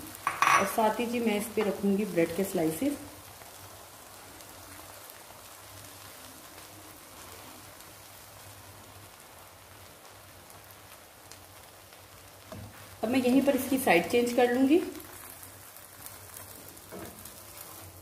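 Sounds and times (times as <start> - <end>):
eggs sizzling in a pan: 0.0 - 18.0.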